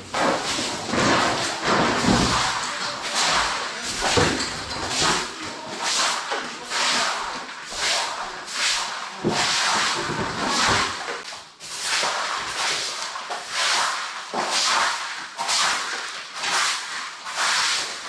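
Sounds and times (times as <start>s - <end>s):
broom sweeping concrete floor: 0.0s - 18.0s.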